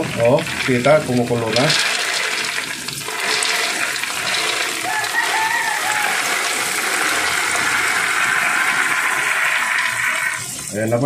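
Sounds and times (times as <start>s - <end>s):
peanuts sizzling in hot oil: 0.0s - 11.0s.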